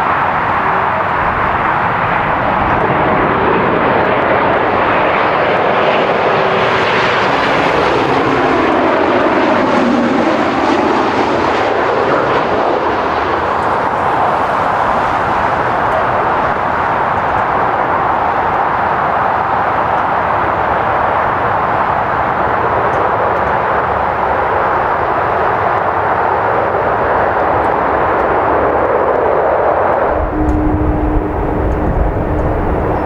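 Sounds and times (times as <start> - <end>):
jet flying past: 0.0 - 33.0.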